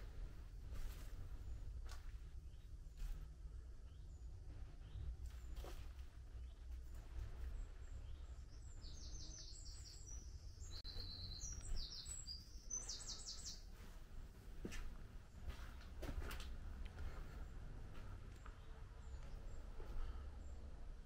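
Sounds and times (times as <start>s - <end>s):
songbird singing: 0.0s - 14.2s, 16.7s - 21.0s
steady low rumble: 0.0s - 21.0s.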